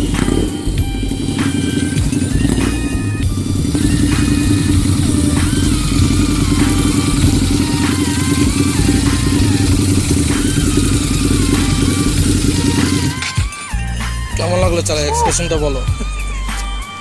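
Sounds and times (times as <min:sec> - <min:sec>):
motorcycle engine running at speed: 0:00.0 - 0:17.0.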